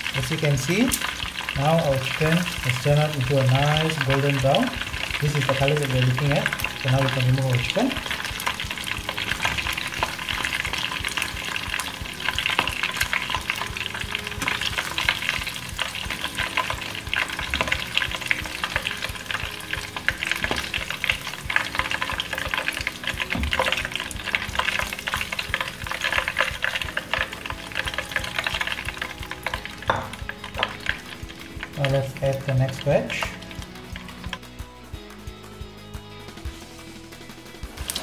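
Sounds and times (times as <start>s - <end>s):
oil sizzling while deep-frying: 0.0s - 38.0s.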